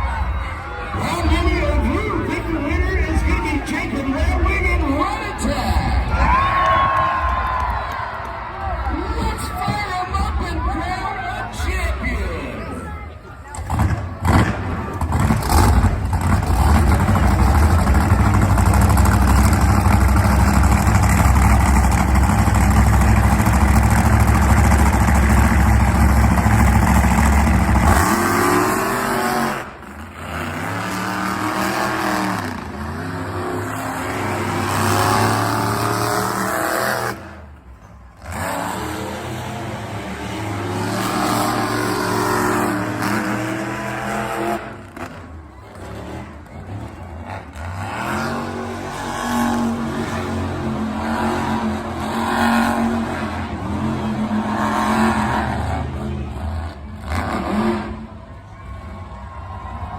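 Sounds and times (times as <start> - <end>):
monster truck engine revving: 0.0 - 59.9.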